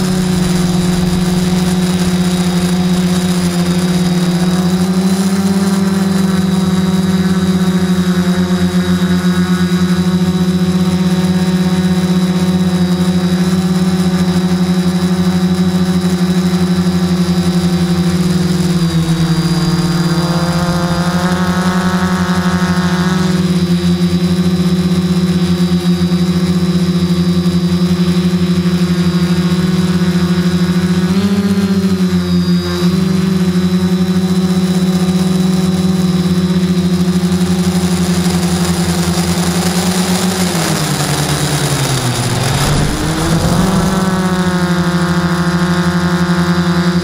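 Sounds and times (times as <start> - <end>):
drone motors and propellers humming: 0.0 - 25.6, 29.1 - 46.6.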